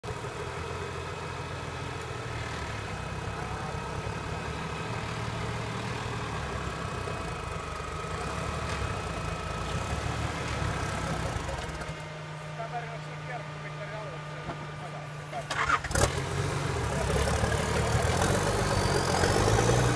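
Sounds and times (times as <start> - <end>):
off-road vehicle engine at low revs: 0.0 - 19.9.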